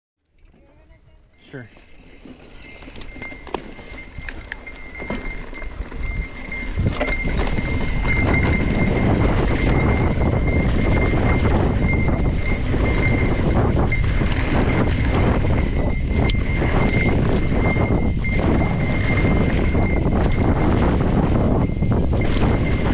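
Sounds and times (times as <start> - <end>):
bike clicking and rattling: 0.2 - 1.1, 1.8 - 22.9
wind rushing over microphone: 2.5 - 22.9.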